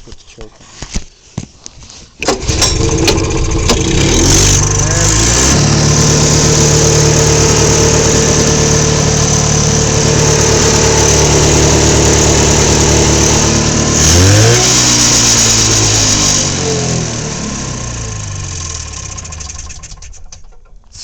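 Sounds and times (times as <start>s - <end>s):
two-stroke engine fast idle: 2.2s - 20.6s.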